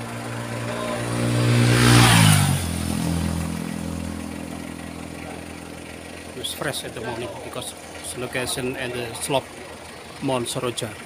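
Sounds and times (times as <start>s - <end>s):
vehicle engine passing by: 0.0s - 9.8s.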